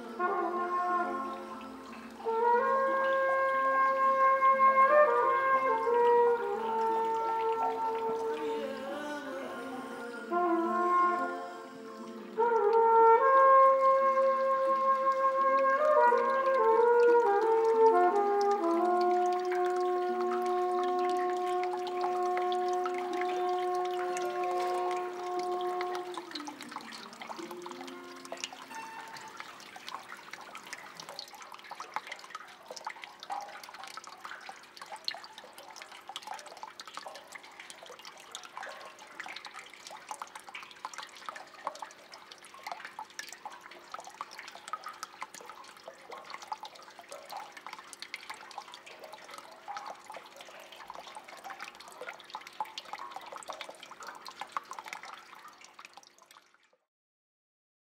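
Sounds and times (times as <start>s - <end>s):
water dripping: 0.0s - 56.9s.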